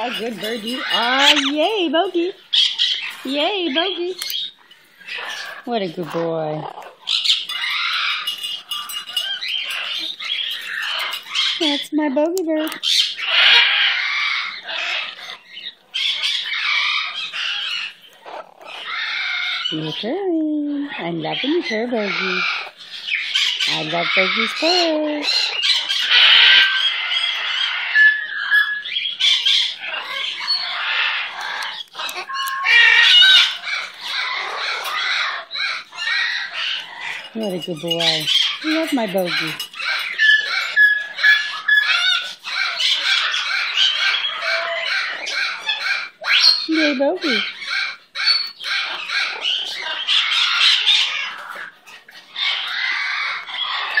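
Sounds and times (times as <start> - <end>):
parrot squeaky chattering calls: 0.0 - 11.8, 12.6 - 20.0, 20.8 - 54.0.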